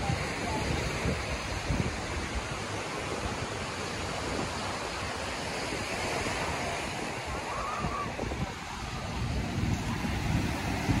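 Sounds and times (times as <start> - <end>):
surf breaking on a beach: 0.0 - 11.0
wind buffeting the microphone: 0.0 - 11.0.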